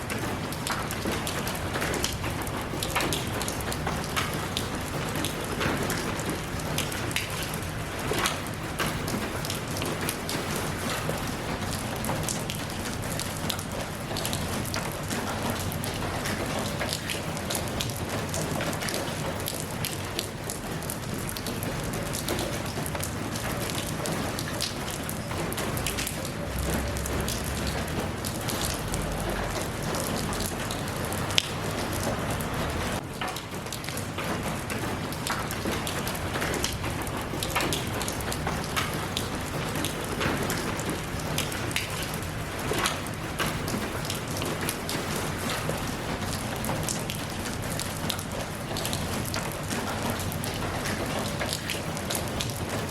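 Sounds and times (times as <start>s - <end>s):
rain falling: 0.0s - 52.9s
raindrops ticking on a hard surface: 0.0s - 52.9s.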